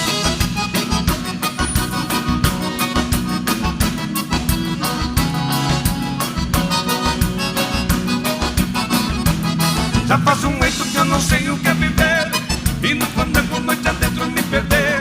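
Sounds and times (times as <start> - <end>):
accordion melody: 0.0 - 15.0
drum and bass beat: 0.0 - 15.0.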